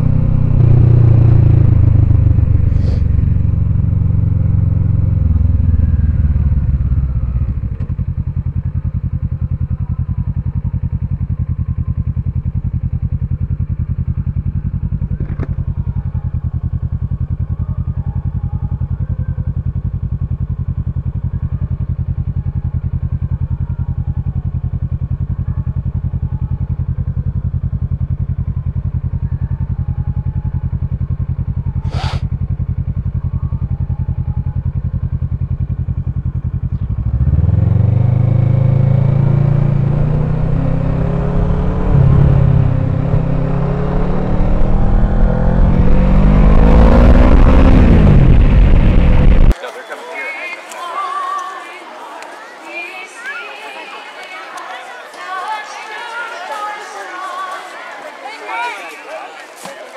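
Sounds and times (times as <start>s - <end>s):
motorcycle engine: 0.0s - 49.8s.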